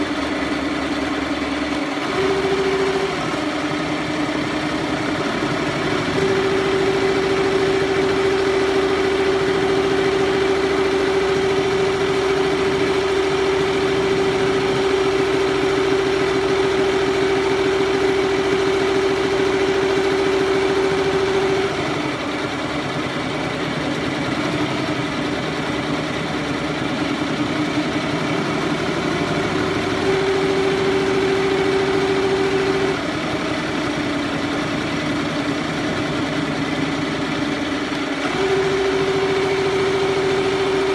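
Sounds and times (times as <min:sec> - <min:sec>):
embroidery machine stitching: 0:00.0 - 0:40.9
machine hum: 0:00.0 - 0:40.9.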